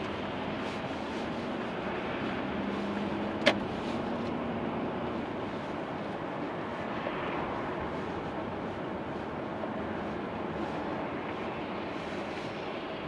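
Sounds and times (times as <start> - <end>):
tyre and road noise inside car: 0.0 - 13.0.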